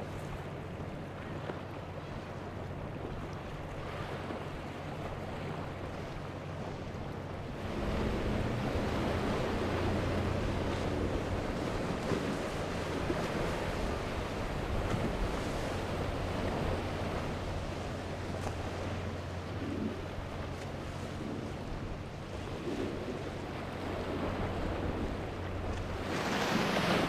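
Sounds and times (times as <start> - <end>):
boat motor hum: 0.0 - 27.0
choppy sea water: 0.0 - 27.0.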